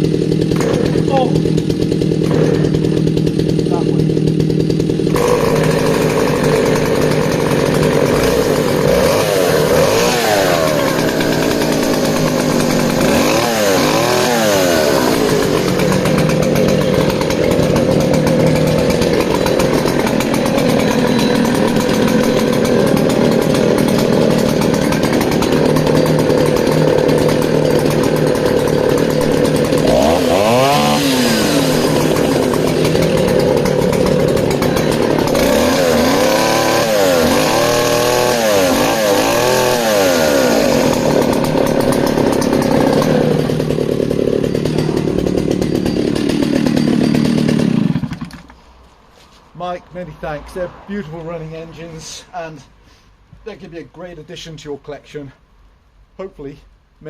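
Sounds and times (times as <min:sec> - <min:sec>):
chainsaw idling and revving: 0:00.0 - 0:48.9, 0:49.9 - 0:52.7.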